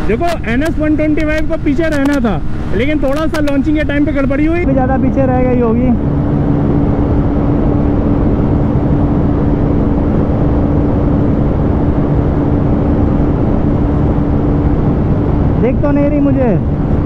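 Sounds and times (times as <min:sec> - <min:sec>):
wind rush: 0:00.0 - 0:17.0.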